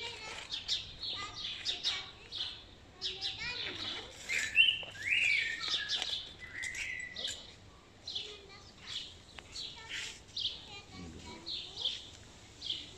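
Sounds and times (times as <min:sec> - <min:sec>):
songbirds chirping and trilling: 0:00.0 - 0:12.9.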